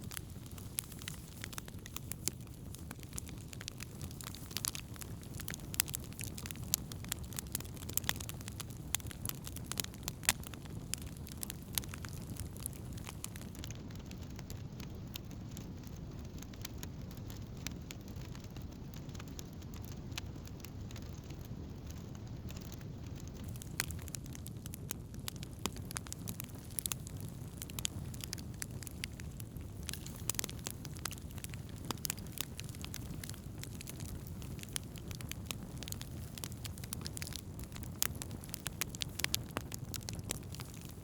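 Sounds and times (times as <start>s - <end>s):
campfire pops and snaps: 0.0s - 41.0s
low fire rumble: 0.0s - 41.0s.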